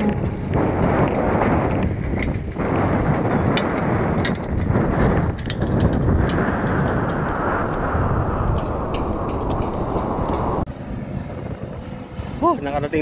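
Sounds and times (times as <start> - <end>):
wind blowing on microphone: 0.0 - 13.0.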